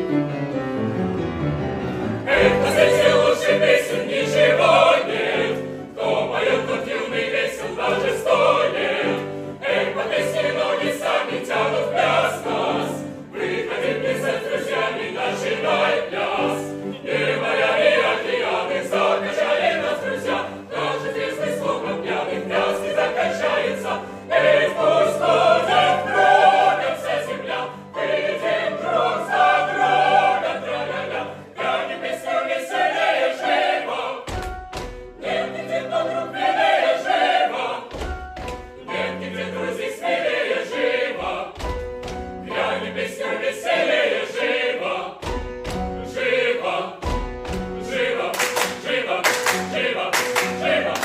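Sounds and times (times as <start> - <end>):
instrumental accompaniment: 0.0 - 51.0
choir singing operetta: 0.8 - 51.0.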